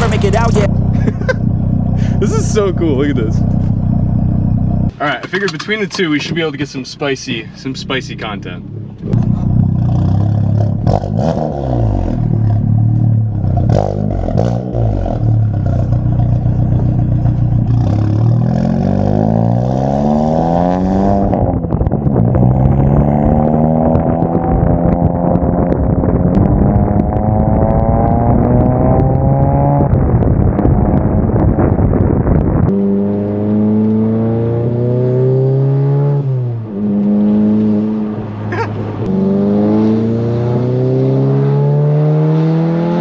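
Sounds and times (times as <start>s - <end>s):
car engine accelerating hard: 0.0s - 4.9s, 9.0s - 31.1s, 32.6s - 43.0s.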